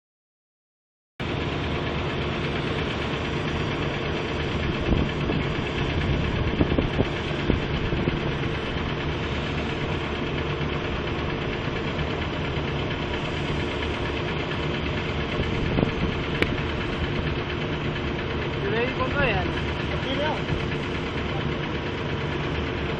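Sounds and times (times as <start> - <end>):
engine running: 1.2 - 22.9.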